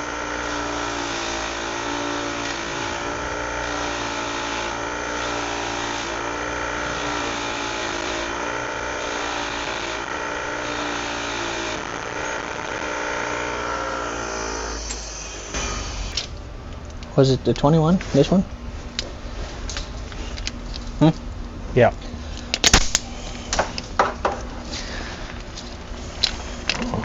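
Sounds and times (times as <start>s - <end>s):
motor running steady drone: 0.0s - 27.0s.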